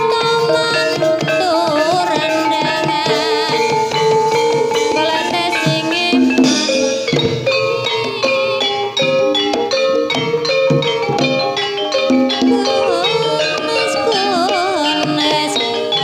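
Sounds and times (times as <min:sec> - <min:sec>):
hand drums beating: 0:00.0 - 0:16.0
melody of struck tuned notes: 0:00.0 - 0:16.0
wavering lead melody: 0:00.0 - 0:16.0.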